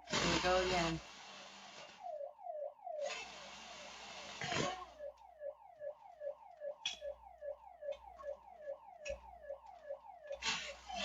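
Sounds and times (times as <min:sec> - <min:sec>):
electronic alarm siren whooping: 0:00.1 - 0:01.0, 0:02.0 - 0:11.0.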